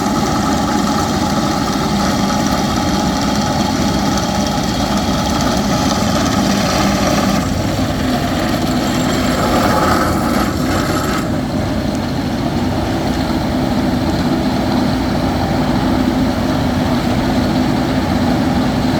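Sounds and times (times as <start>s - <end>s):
diesel machinery droning: 0.0s - 18.9s
high-pitched mechanical noise: 0.0s - 18.9s.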